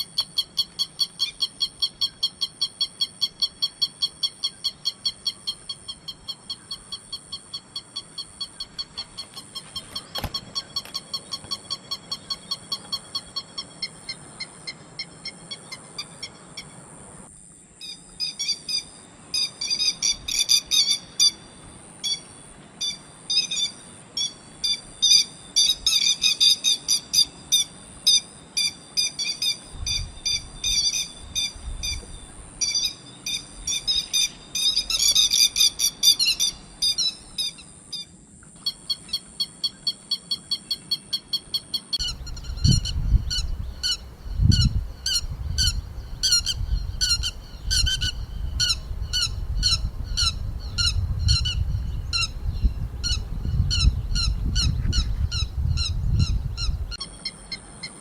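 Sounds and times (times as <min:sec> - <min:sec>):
lapwing calling: 0:00.0 - 0:17.2, 0:17.8 - 0:58.0
steady high hiss: 0:00.0 - 0:58.0.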